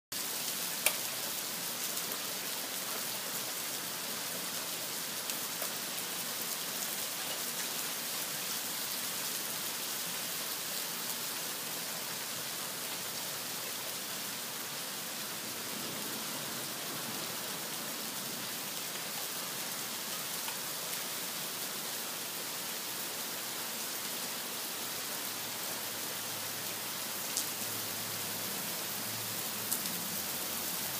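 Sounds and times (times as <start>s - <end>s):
rain falling: 0.1s - 30.9s.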